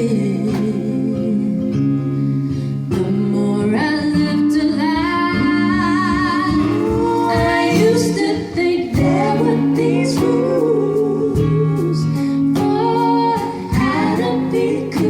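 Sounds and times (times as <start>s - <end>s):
woman singing with vibrato: 0.0s - 2.2s, 2.9s - 15.0s
guitar accompaniment: 0.0s - 15.0s.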